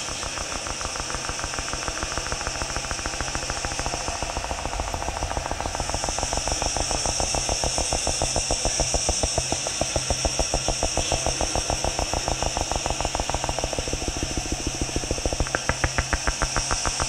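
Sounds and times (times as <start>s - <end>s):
high hiss: 0.0s - 17.0s
low hum: 0.0s - 17.0s
rapid electronic pulsing: 0.0s - 17.0s.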